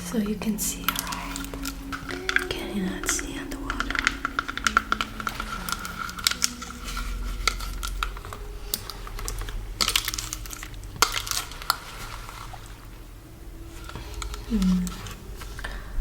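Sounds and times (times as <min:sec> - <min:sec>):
crinkling: 0:00.0 - 0:16.0.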